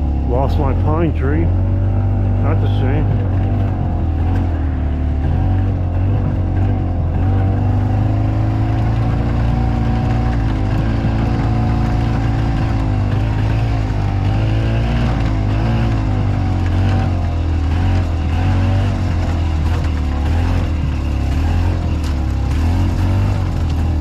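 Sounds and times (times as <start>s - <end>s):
golf cart engine running: 0.0s - 24.0s.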